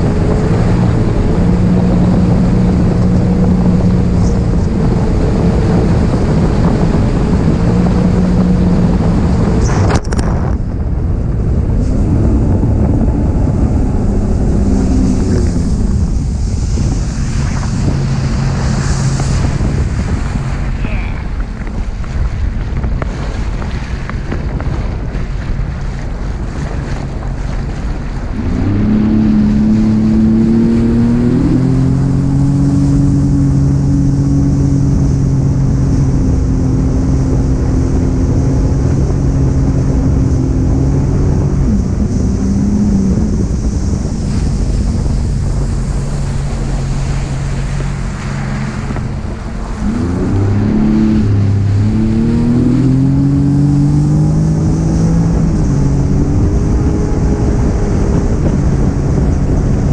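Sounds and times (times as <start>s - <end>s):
jet ski engine revving: 0.0s - 59.9s
rushing wind and water: 0.0s - 59.9s.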